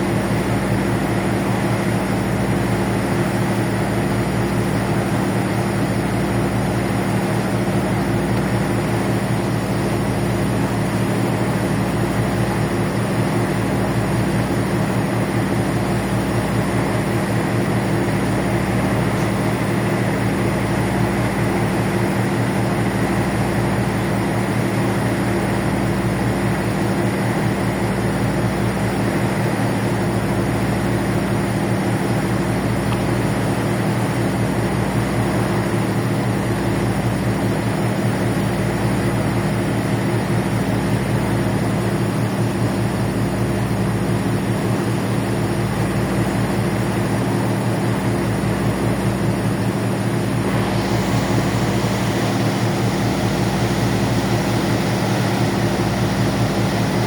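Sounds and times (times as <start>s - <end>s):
ferry engines droning: 0.1s - 57.0s.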